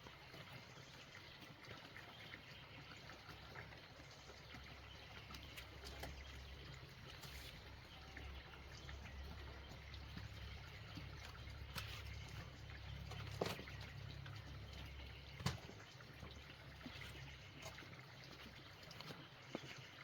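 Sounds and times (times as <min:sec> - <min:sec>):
faint trickling water: 0:00.0 - 0:20.0.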